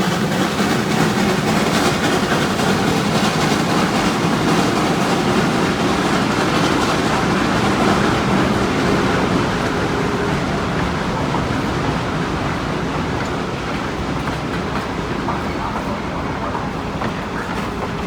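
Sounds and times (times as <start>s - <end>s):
train wheels rumbling and rattling: 0.0s - 18.0s.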